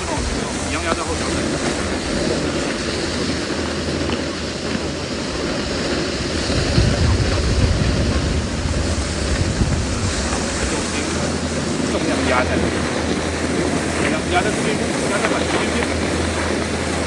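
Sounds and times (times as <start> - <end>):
low rumble: 0.0 - 17.0
snowboard sliding over snow: 0.0 - 17.0
wind buffeting microphone: 0.0 - 17.0.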